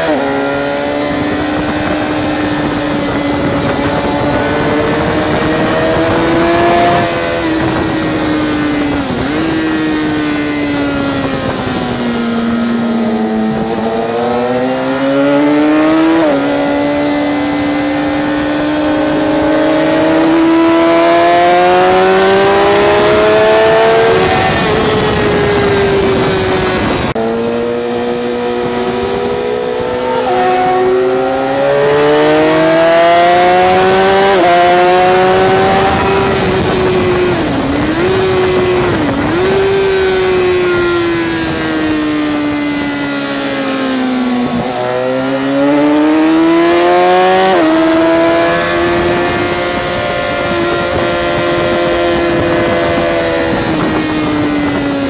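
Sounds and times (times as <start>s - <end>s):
motorcycle engine at speed: 0.0s - 55.0s.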